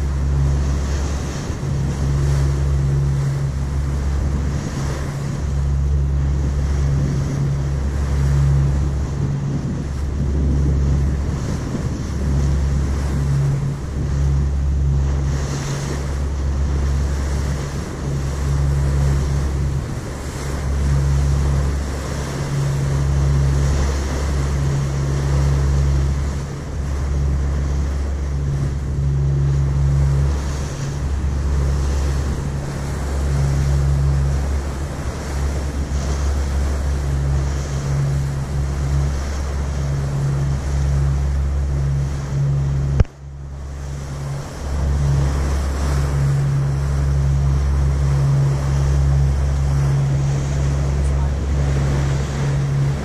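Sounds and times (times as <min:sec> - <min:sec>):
low rumble: 0:00.0 - 0:53.0
sea rushing along hull: 0:00.0 - 0:53.0
wind buffeting microphone: 0:00.0 - 0:53.0.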